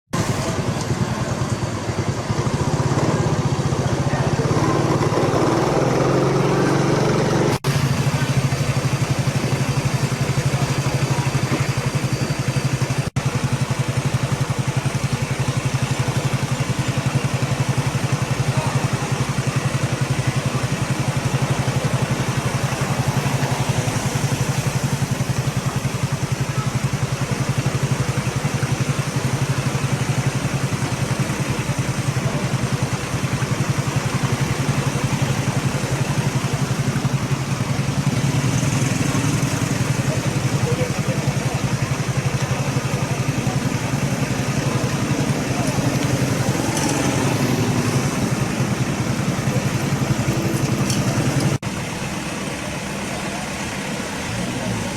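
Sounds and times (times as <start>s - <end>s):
engine idling: 0.1s - 54.9s.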